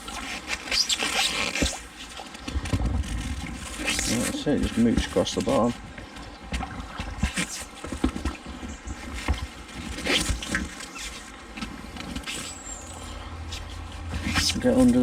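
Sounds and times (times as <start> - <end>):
short splashes and knocks: 0.0 - 12.8
pole dragging along riverbed: 0.0 - 15.0.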